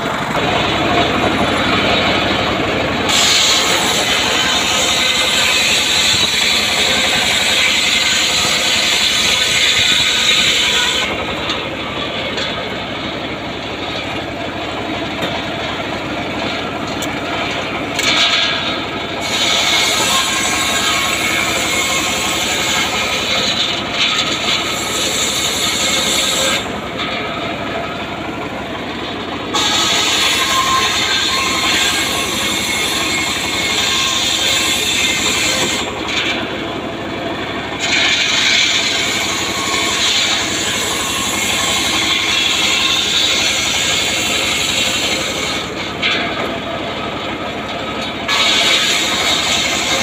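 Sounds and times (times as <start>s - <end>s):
saw blade whining through log: 0.0s - 50.0s
sawmill engine pulsing: 0.0s - 50.0s.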